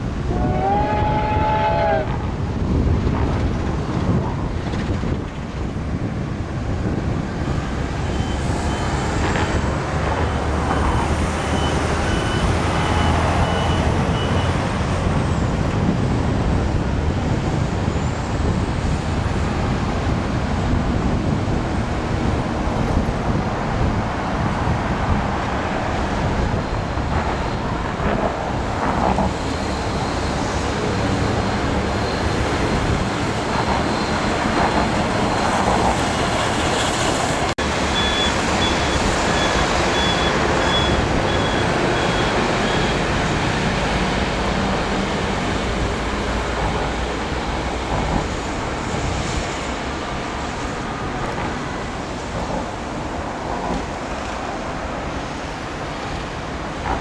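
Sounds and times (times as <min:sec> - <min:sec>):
steam locomotive passing: 0:00.0 - 0:05.7, 0:06.5 - 0:57.0
road traffic: 0:00.0 - 0:57.0.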